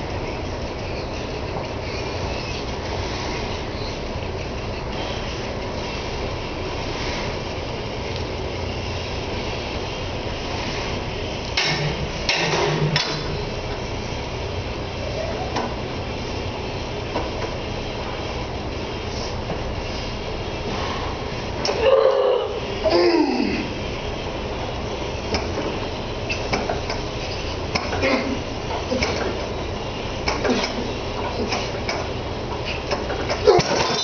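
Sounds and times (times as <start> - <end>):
weight room noise: 0.0 - 34.0.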